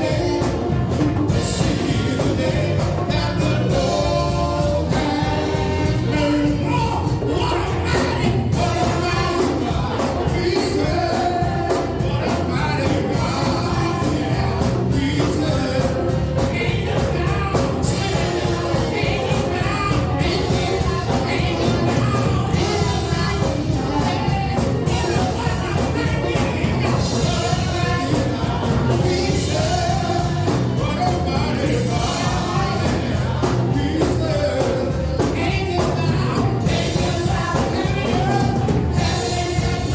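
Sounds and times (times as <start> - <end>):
gospel music with singing and band: 0.0 - 39.9.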